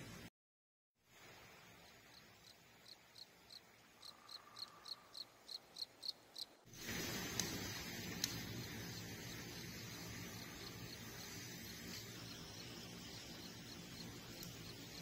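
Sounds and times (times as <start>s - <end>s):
steady hiss: 1.0s - 15.0s
cricket chirping: 1.8s - 6.6s, 7.2s - 15.0s.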